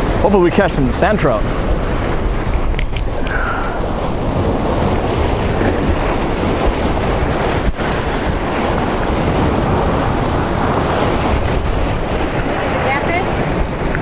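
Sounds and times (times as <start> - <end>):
surf breaking: 0.0 - 14.0
wind buffeting microphone: 0.0 - 14.0.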